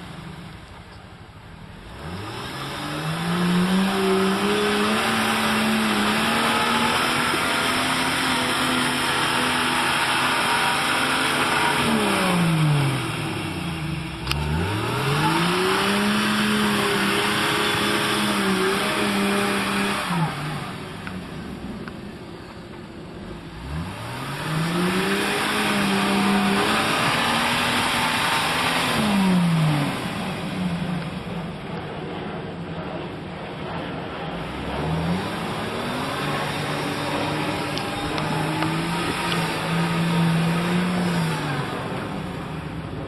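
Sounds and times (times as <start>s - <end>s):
vehicle engine revving: 1.5s - 43.0s.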